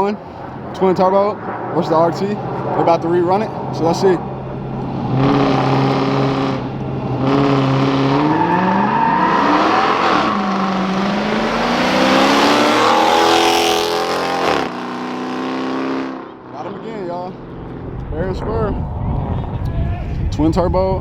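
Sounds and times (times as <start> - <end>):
car engines accelerating: 0.0 - 19.7.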